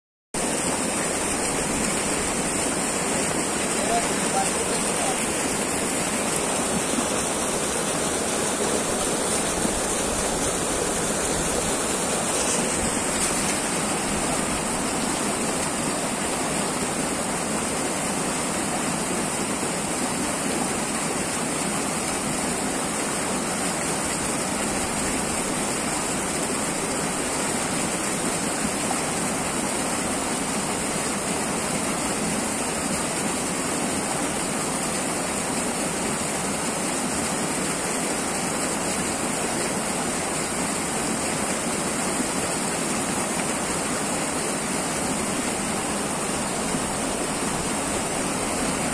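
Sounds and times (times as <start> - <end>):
stream rushing through rapids: 0.4 - 48.9.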